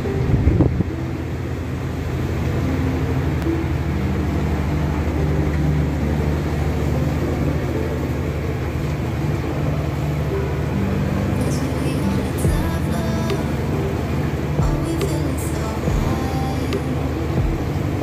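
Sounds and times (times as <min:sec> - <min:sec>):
sea noise: 0:00.0 - 0:18.0
vessel engine droning: 0:00.0 - 0:18.0
wind: 0:00.0 - 0:18.0.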